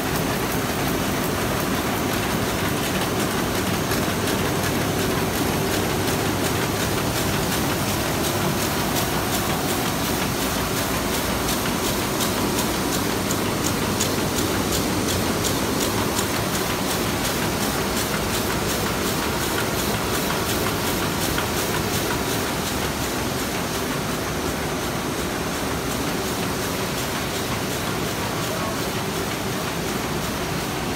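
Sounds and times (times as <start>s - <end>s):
printing press clattering: 0.0s - 30.9s.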